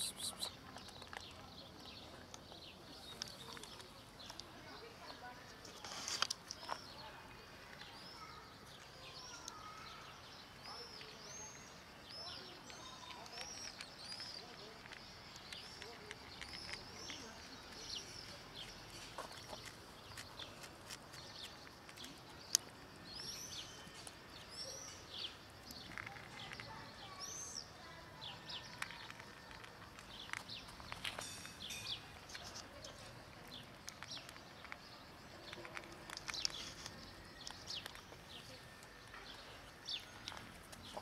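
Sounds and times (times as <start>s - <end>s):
cats eating clicks: 0.0s - 7.0s, 10.7s - 41.0s
small birds chirping: 0.0s - 41.0s.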